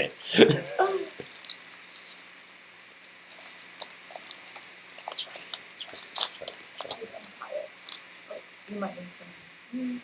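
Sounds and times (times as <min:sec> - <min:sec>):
wrapper crinkling as torn open: 0:00.5 - 0:08.8.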